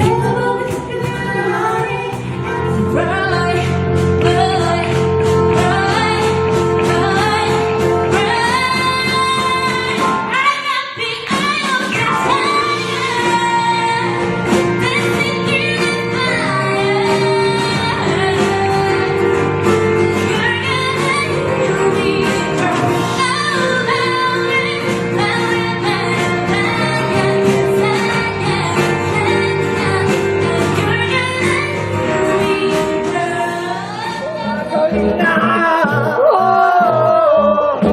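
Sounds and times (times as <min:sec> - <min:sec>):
band accompaniment: 0:00.0 - 0:37.9
woman singing a pop song: 0:00.0 - 0:37.9.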